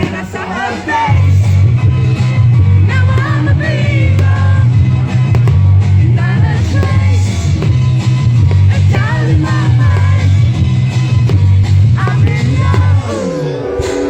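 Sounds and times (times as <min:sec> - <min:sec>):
heavy bass line: 0:00.0 - 0:14.0.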